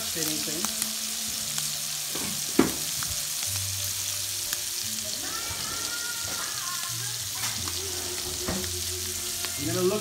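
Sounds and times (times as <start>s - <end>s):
scallops sizzling in frying pans: 0.0s - 10.0s.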